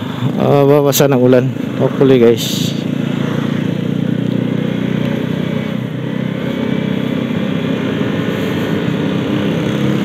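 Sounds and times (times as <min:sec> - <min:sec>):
motorcycle engine running: 0:00.0 - 0:10.0
road noise: 0:00.0 - 0:10.0.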